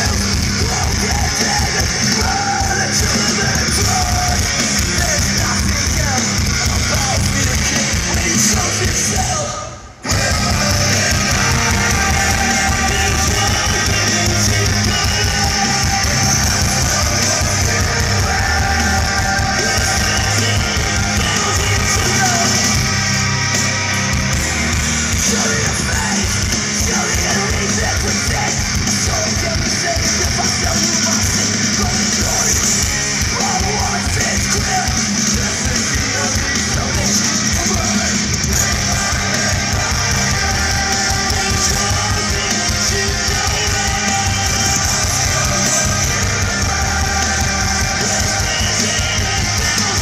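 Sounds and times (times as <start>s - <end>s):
live rock band: 0.0s - 50.0s.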